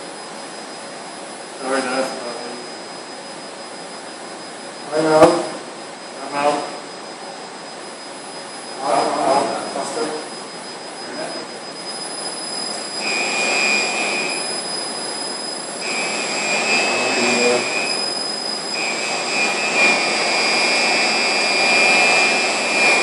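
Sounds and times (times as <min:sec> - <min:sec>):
steady background hiss: 0:00.0 - 0:18.8
electric hoist whining: 0:00.0 - 0:23.0.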